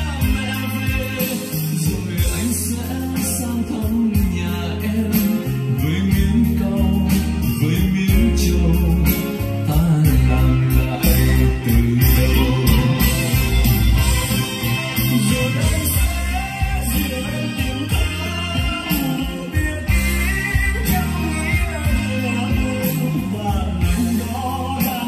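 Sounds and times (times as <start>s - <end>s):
song with singing over loudspeakers: 0.0s - 25.0s.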